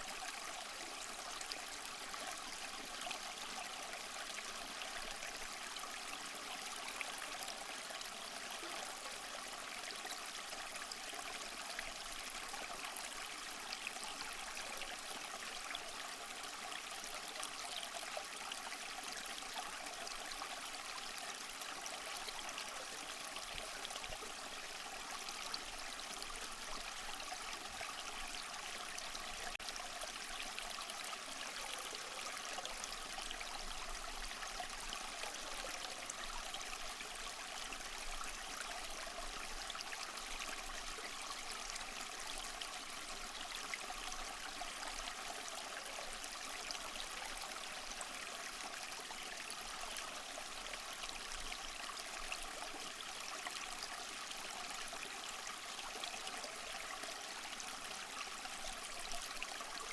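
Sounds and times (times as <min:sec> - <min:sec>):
small waterfall trickling over rocks: 0:00.0 - 0:59.9.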